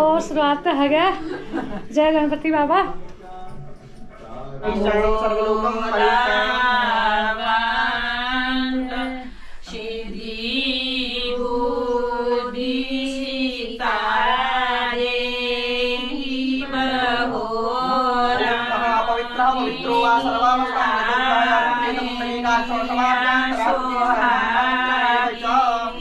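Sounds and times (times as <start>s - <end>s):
women singing long-held notes: 4.6s - 26.0s.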